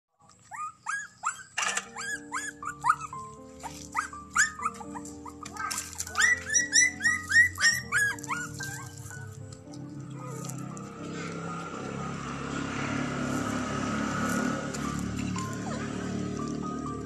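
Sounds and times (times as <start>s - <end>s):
puppies whimpering and yipping: 0.2s - 12.0s, 13.5s - 17.0s
background music with held notes: 0.2s - 17.0s.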